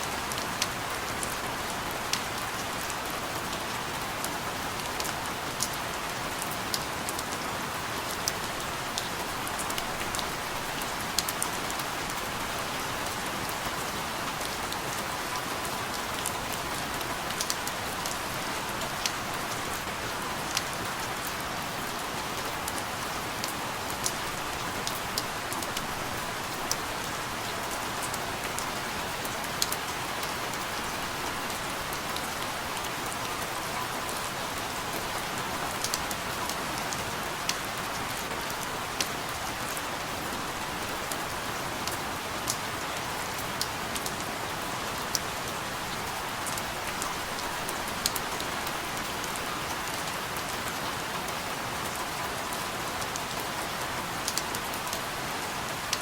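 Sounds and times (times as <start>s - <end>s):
steady rain hiss: 0.0s - 56.0s
raindrops ticking on a surface: 0.2s - 56.0s.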